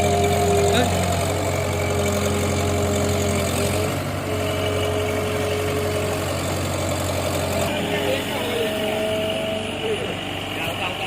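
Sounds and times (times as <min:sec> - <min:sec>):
harvester engine drone: 0:00.0 - 0:11.0.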